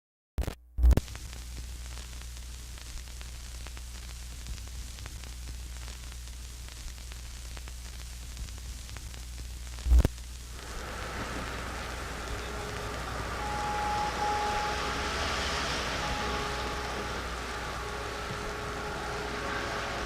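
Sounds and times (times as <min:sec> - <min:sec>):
crackling static hiss: 0:00.4 - 0:20.0
steady low hum: 0:01.1 - 0:20.0.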